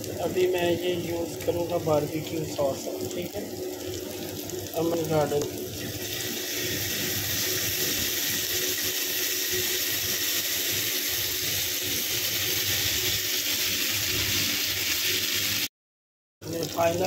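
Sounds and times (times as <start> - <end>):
chicken sizzling on grill pan: 0.0 - 15.7.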